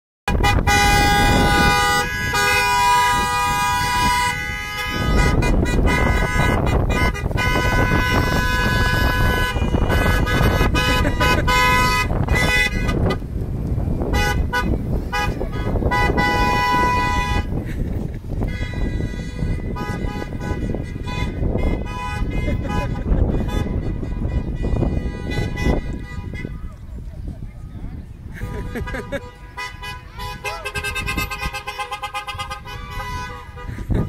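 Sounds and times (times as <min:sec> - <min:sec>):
car horns honking: 0:00.3 - 0:26.8, 0:28.3 - 0:34.0
low traffic rumble: 0:00.3 - 0:34.0.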